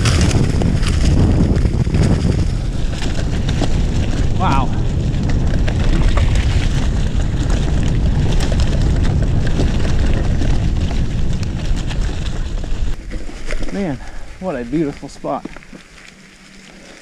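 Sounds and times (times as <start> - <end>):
tyres crackling over leaves: 0.0 - 17.0
wind rumbling on microphone: 0.0 - 17.0.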